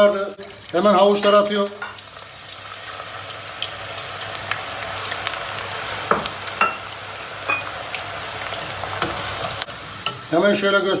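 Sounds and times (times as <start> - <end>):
oil sizzling hiss: 0.0 - 11.0.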